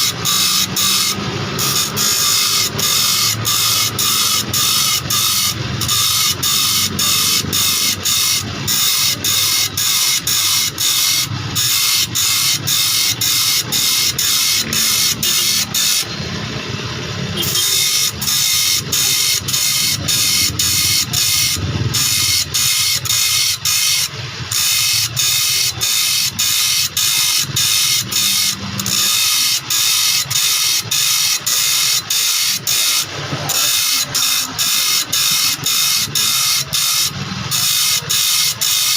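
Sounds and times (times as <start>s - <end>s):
saw-sharpening grinder grinding: 0.0s - 38.9s.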